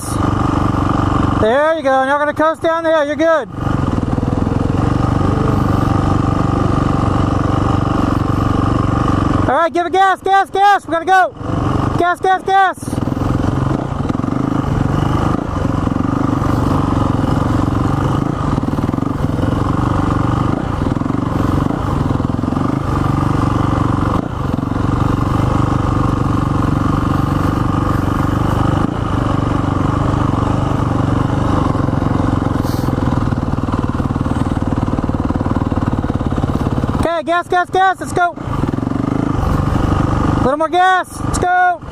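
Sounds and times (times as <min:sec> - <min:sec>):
dirt bike engine droning: 0:00.0 - 0:41.9.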